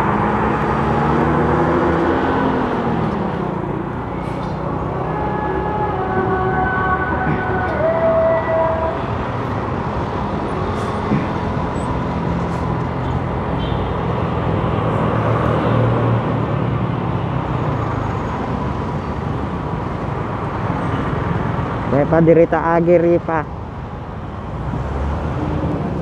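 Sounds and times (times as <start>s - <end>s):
bus passing: 0.0s - 26.0s
surrounding traffic: 0.0s - 26.0s
wind and road noise: 0.0s - 26.0s.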